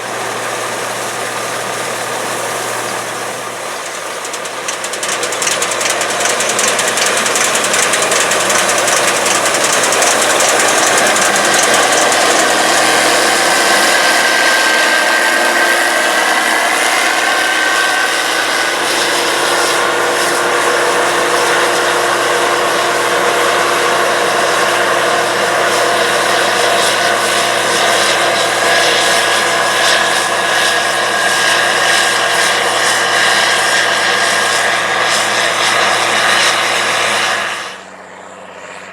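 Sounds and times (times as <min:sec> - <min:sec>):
harvest machinery running: 0:00.0 - 0:38.9
high mechanical whine: 0:00.0 - 0:38.9.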